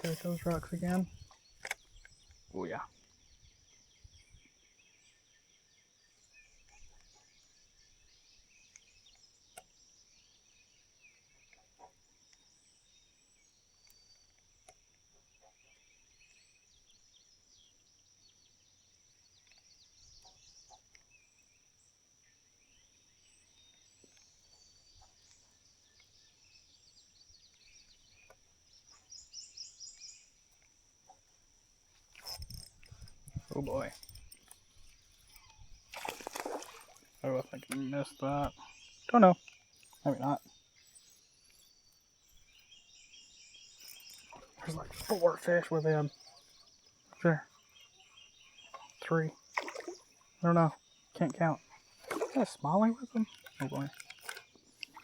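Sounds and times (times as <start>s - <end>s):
bird chirps: 0.0s - 14.4s, 22.2s - 31.4s, 32.0s - 55.0s.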